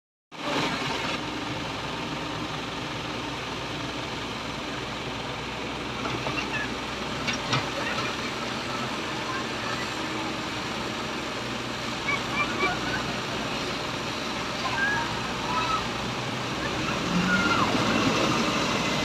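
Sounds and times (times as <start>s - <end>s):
excavator diesel engine running: 0.4s - 19.0s.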